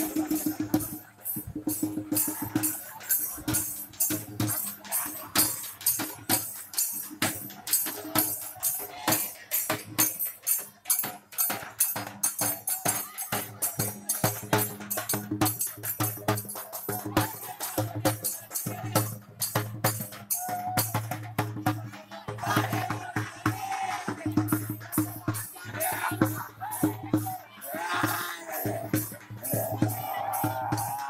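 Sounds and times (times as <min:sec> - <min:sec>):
bass drum and percussion beat: 0:00.0 - 0:31.0.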